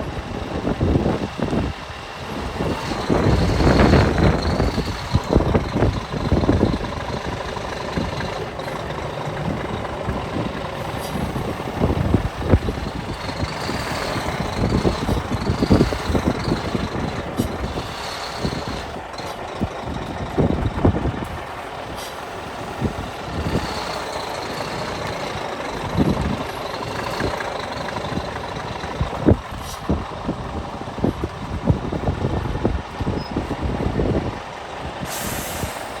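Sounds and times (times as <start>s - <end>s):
truck diesel engine running: 0.0s - 36.0s.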